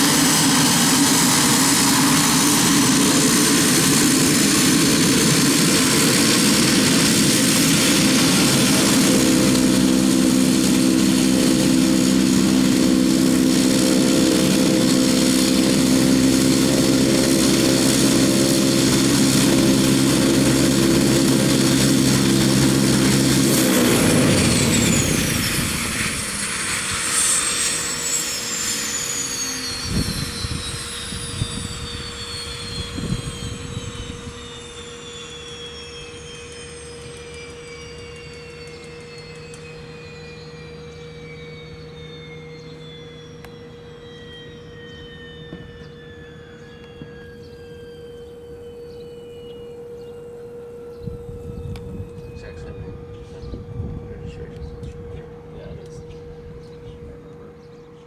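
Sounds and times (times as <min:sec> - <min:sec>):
turbine whine falling in pitch: 0:00.0 - 0:58.0
turboprop engine idling: 0:00.0 - 0:58.0.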